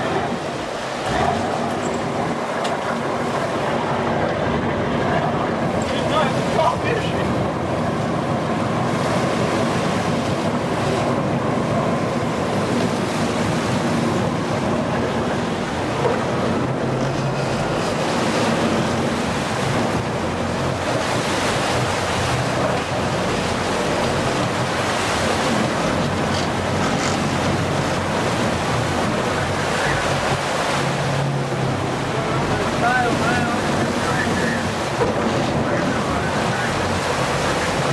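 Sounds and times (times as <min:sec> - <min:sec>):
low boat engine hum: 0:00.0 - 0:37.9
water washing past boat hull: 0:00.0 - 0:37.9
wind buffeting microphone: 0:00.0 - 0:37.9.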